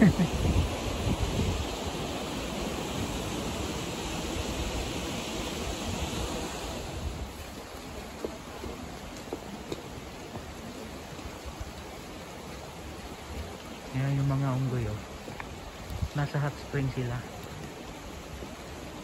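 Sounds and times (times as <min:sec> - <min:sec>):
rushing outdoor noise: 0:00.0 - 0:19.0.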